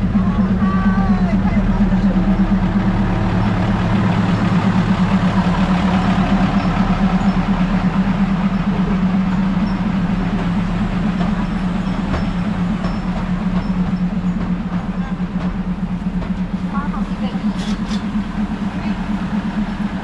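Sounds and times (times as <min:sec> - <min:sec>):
diesel railcar engine humming: 0:00.0 - 0:20.0.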